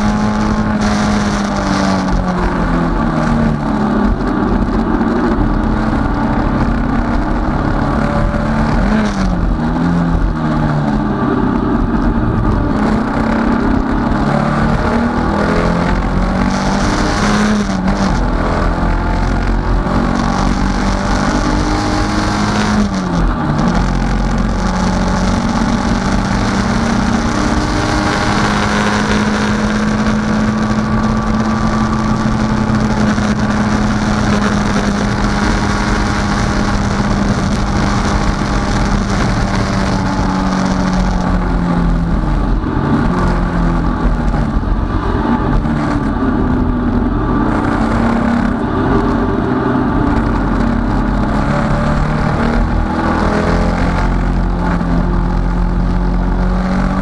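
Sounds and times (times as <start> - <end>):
race car engine from inside cabin: 0.0 - 57.0.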